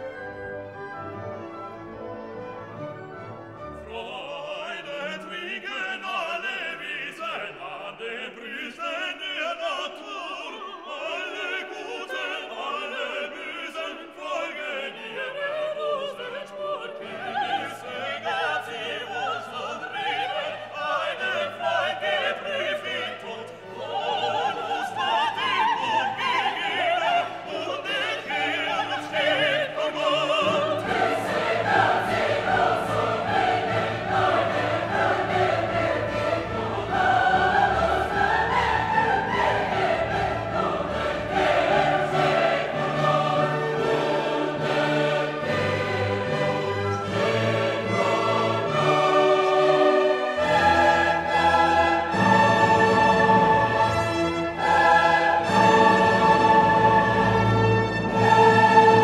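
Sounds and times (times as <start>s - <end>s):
operatic singing with orchestra: 0.0s - 59.0s.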